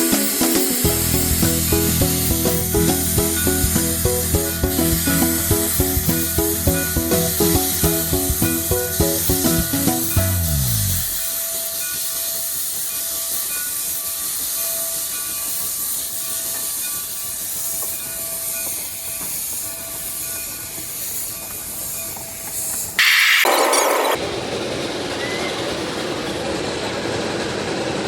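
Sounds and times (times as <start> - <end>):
steam locomotive hissing steam: 0.0 - 10.3, 10.9 - 23.2.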